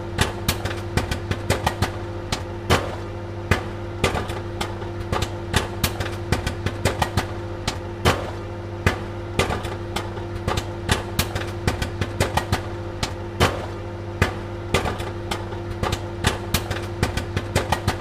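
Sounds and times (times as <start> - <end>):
steady low hum: 0.0 - 18.0
popcorn popping: 0.2 - 18.0.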